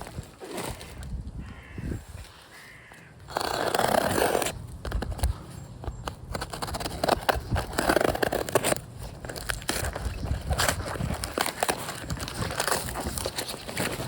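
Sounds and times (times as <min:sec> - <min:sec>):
hands scraping and rustling: 0:00.0 - 0:14.0.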